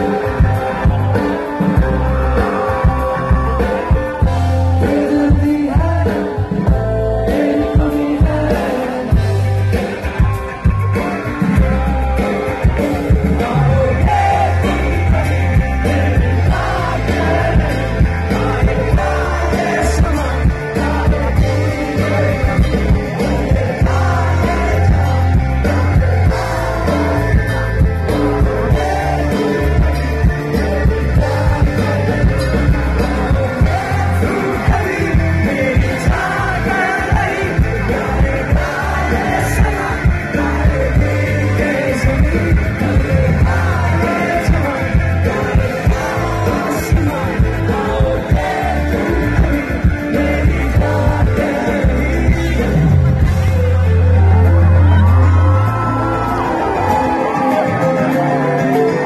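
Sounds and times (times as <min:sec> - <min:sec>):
live rock band: 0:00.0 - 0:59.0
person singing: 0:00.0 - 0:59.0.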